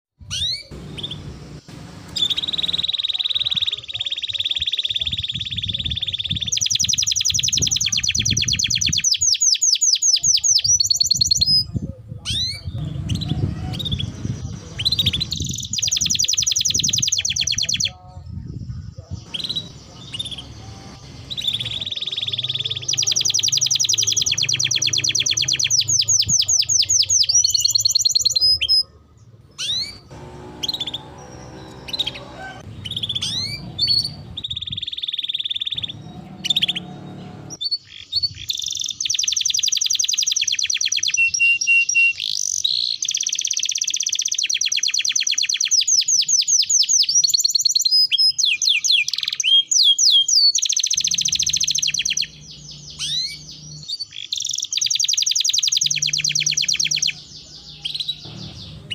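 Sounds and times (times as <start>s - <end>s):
canary singing trills: 0.2s - 58.9s.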